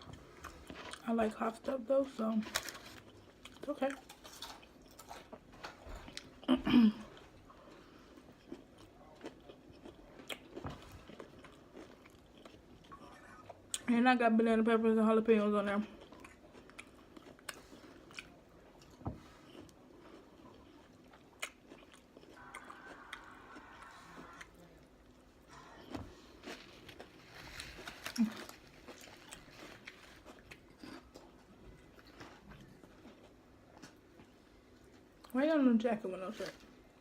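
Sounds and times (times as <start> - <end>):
person chewing a sandwich: 0.0 - 1.0, 2.4 - 13.8, 15.9 - 35.3.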